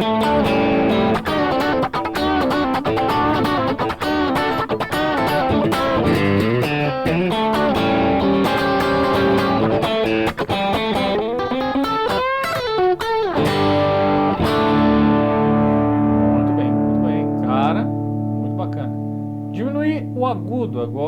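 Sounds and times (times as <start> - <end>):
overdriven electric guitar lead: 0.0 - 21.0.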